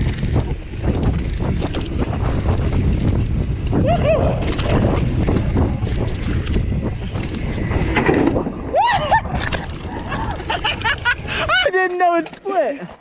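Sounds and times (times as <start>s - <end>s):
bike tyre roar: 0.0s - 11.5s
wind on microphone: 0.0s - 11.6s
bike rattling: 0.0s - 13.0s.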